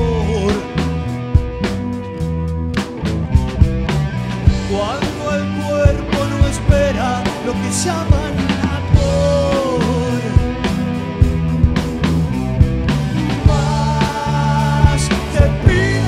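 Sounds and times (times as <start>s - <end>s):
bass guitar: 0.0s - 16.0s
drum kit beat: 0.0s - 16.0s
rock band playing: 0.0s - 16.0s.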